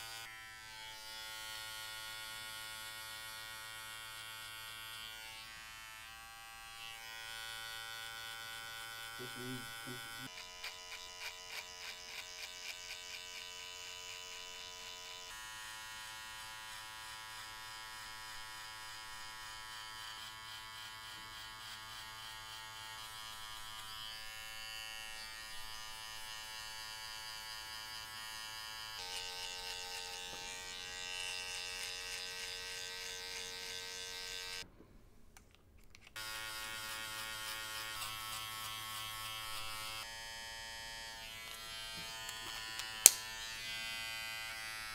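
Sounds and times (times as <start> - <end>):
electric hair clippers buzzing: 0.0 - 34.6, 36.2 - 44.9.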